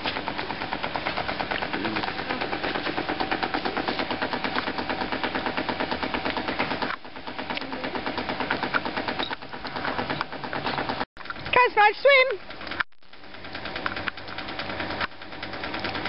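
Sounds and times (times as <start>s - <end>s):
pool cleaner mechanical ticking: 0.0s - 11.4s, 12.0s - 16.0s.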